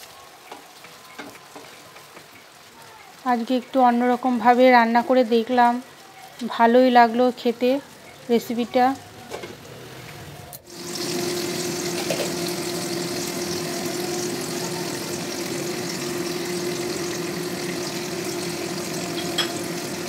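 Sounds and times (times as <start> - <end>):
curry bubbling and sizzling: 0.0 - 20.0.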